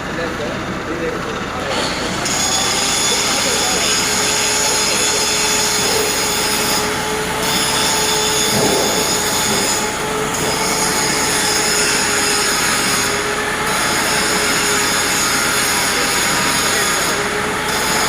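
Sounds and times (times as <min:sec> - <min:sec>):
industrial machinery hum: 0:00.0 - 0:18.0.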